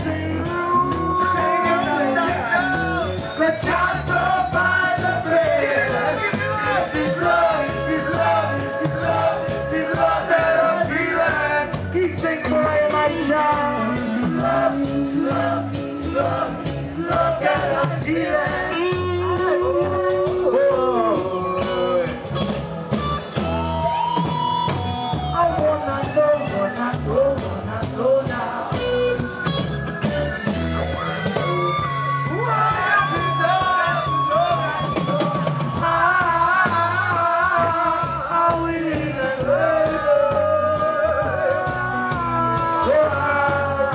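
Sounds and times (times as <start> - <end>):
live reggae band playing: 0.0 - 43.9.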